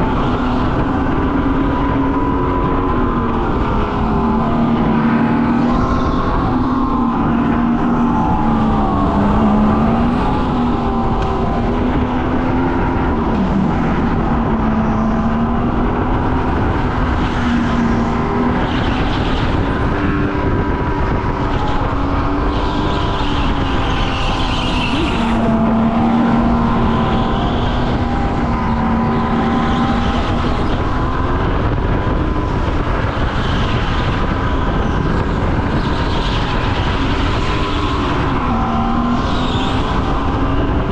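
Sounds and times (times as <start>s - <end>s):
go-kart engine revving: 0.0s - 40.9s
steady rush of noise: 0.0s - 40.9s.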